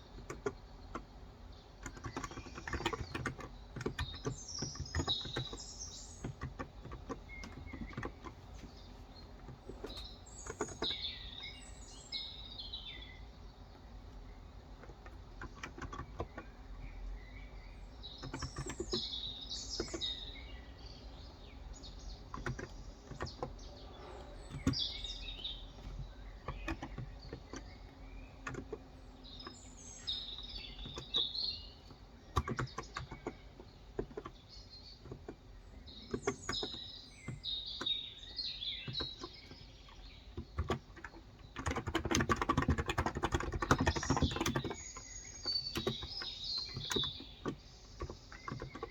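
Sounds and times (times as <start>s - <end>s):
small birds chirping: 0.0s - 48.9s
keyboard typing: 0.1s - 1.2s, 1.8s - 11.1s, 14.7s - 16.6s, 18.1s - 20.3s, 22.1s - 38.1s, 38.8s - 48.9s.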